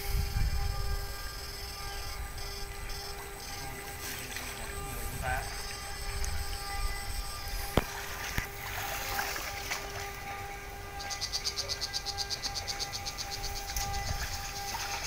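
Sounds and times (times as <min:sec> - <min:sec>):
high pulsing buzz: 0:00.0 - 0:15.0
steady electrical hum: 0:00.0 - 0:15.0.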